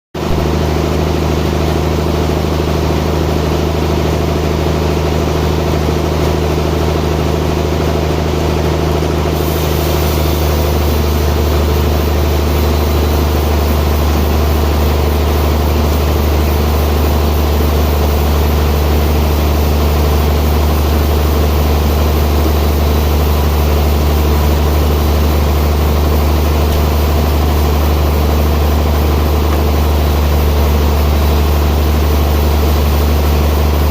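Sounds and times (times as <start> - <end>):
sawmill machinery humming: 0.2 - 33.9.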